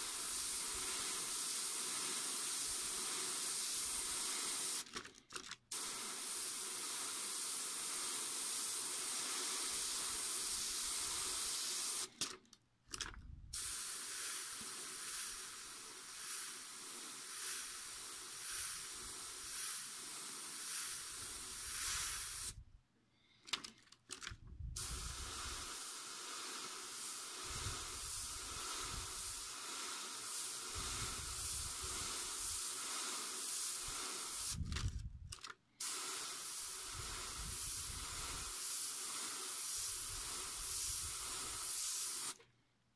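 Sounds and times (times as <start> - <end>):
airbrush spraying hiss: 0.0 - 4.9, 5.7 - 12.1, 13.5 - 22.6, 24.8 - 34.6, 35.8 - 42.4.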